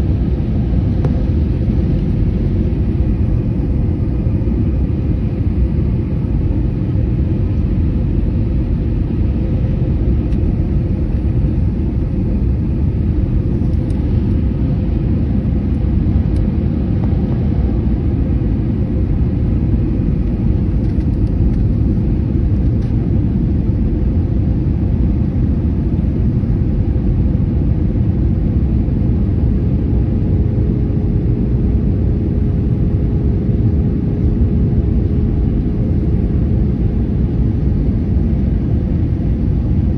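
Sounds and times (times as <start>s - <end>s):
airliner cabin roar: 0.0s - 39.9s
faint hum: 0.0s - 39.9s.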